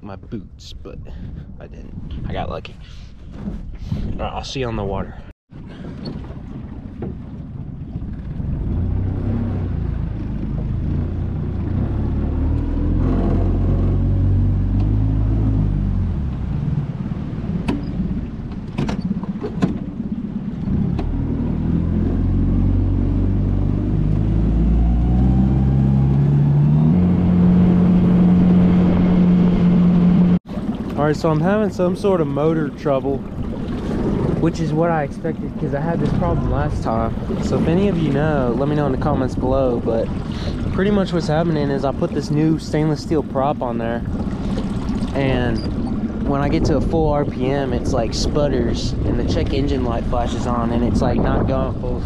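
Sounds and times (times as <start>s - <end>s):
outboard motor running: 5.6s - 52.0s.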